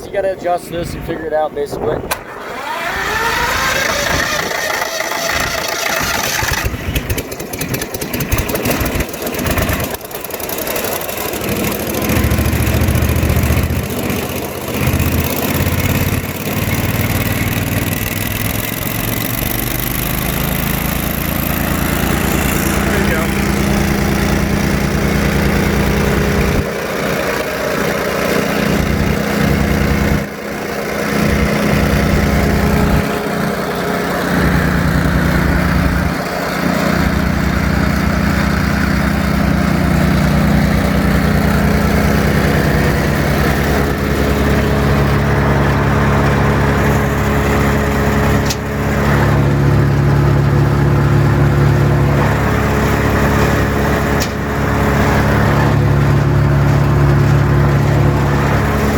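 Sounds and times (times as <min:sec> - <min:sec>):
wood chipper engine running: 0:02.0 - 0:58.9.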